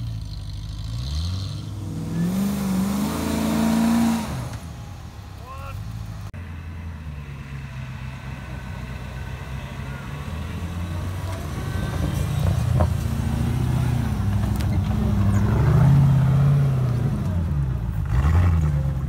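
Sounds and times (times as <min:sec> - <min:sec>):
off-road vehicle engine low revs: 0:00.0 - 0:19.0.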